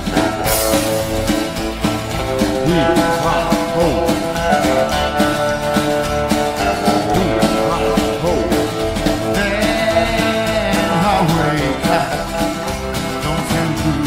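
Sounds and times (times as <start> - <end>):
harmonica: 0.0 - 14.0
rockabilly band playing: 0.0 - 14.0.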